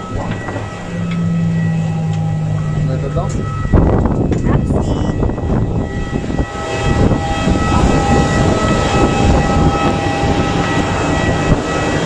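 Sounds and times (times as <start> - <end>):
jet turbine whine: 0.0 - 12.0.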